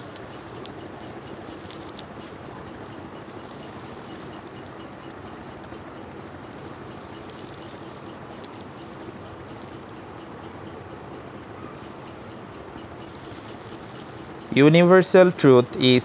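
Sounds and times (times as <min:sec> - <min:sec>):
fast even ticking: 0:00.0 - 0:16.0
room noise hiss and hum: 0:00.0 - 0:16.0.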